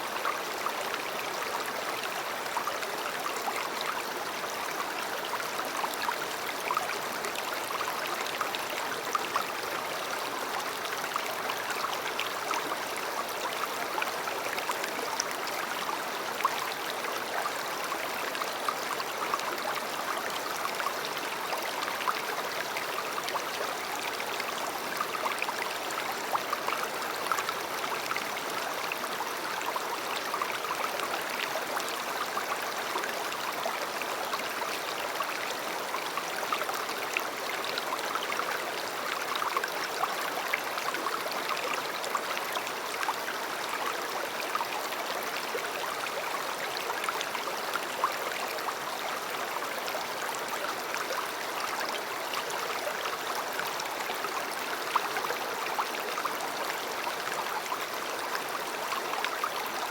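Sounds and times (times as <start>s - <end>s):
river water flowing over stones: 0.0s - 59.9s.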